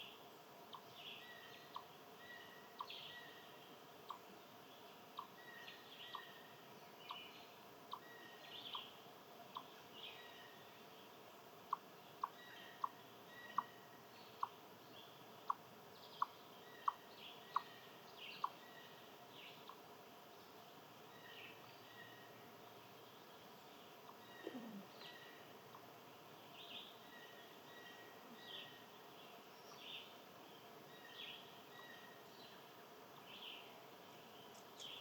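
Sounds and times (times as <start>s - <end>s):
wild birds chirping: 0.0s - 35.0s.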